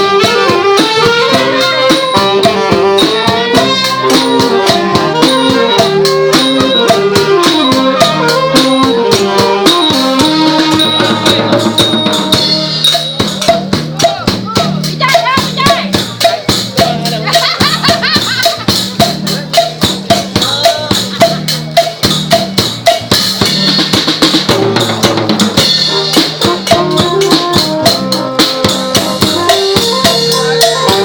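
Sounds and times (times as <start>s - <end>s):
wind instrument melody: 0.0s - 19.8s, 24.6s - 31.0s
drums and cymbals beat: 0.0s - 31.0s.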